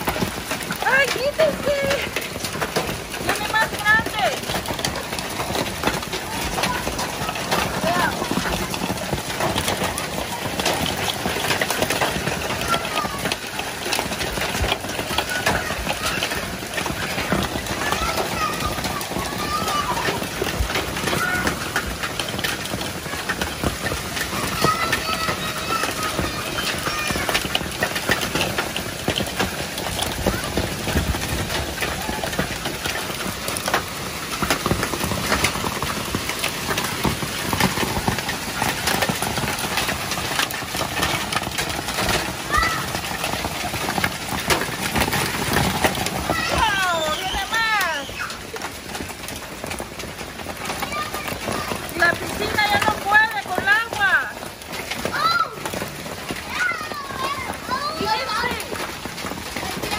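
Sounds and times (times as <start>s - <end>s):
hailstones clattering: 0.0s - 59.9s
heavy rain hiss: 0.0s - 59.9s.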